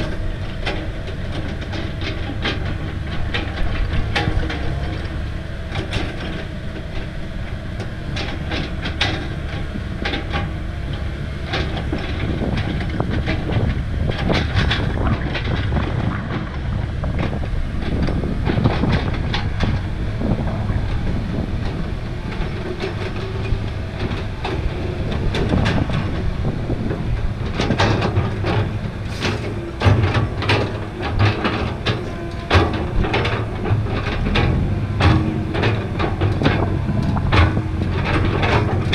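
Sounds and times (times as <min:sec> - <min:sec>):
metallic clanks and rattles: 0:00.0 - 0:07.1, 0:08.2 - 0:38.9
heavy diesel machinery rumbling: 0:00.0 - 0:38.9.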